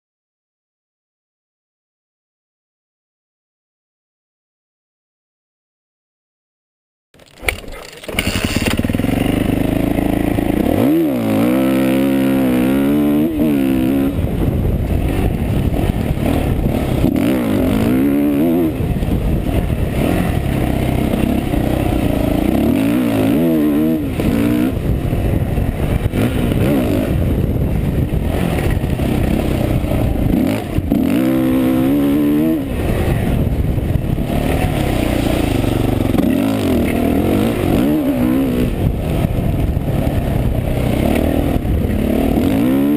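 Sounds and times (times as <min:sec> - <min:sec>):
motorcycle engine revving: 0:07.2 - 0:42.9.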